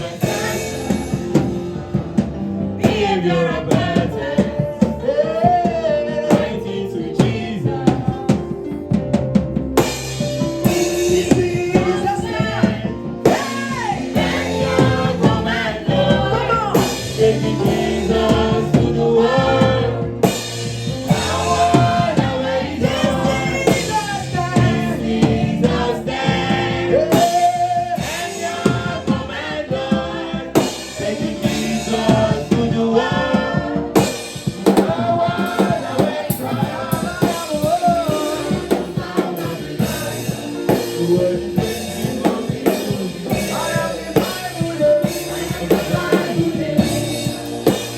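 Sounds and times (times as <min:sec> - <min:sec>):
voices singing: 0:00.0 - 0:08.9, 0:10.6 - 0:47.9
drum kit: 0:00.0 - 0:47.9
other instruments: 0:00.0 - 0:47.9.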